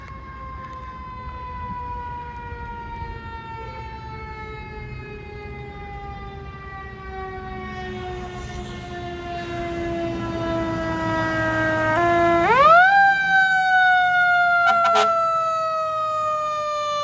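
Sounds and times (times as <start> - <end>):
fire siren winding down: 0.0 - 17.0.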